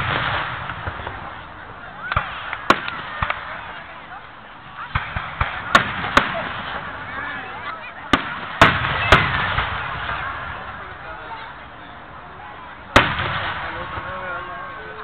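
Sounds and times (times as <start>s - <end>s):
fireworks bursting with sharp bangs: 0.0s - 11.6s, 12.9s - 15.0s
crowd voices: 0.0s - 15.0s.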